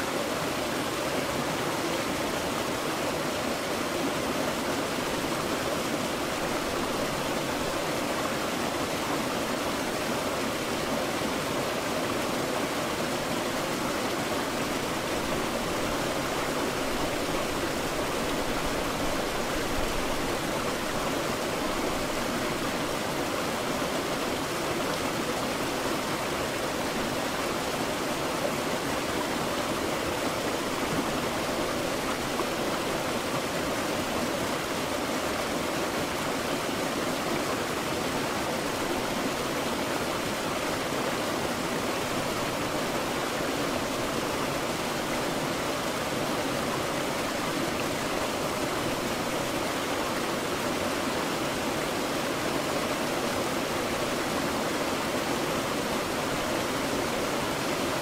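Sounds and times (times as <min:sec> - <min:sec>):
waterfall pouring over rocks: 0:00.0 - 0:58.0.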